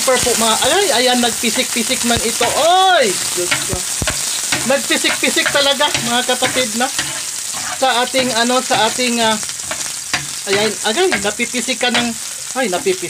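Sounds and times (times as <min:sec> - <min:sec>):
garlic sizzling in hot oil: 0:00.0 - 0:13.0
metal spoon stirring in pan: 0:01.4 - 0:13.0.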